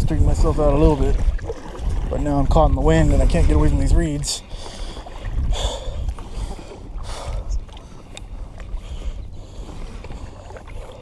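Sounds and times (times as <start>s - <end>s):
paddle strokes in water: 0.0s - 11.0s
water splashes: 0.0s - 11.0s.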